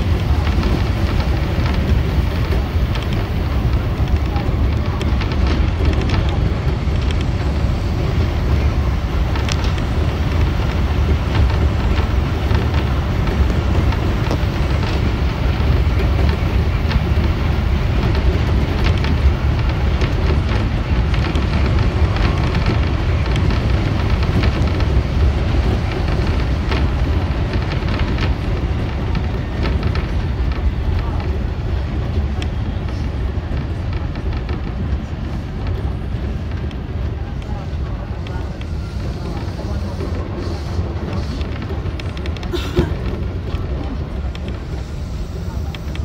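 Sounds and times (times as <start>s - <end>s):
electric train rumbling: 0.0s - 46.0s.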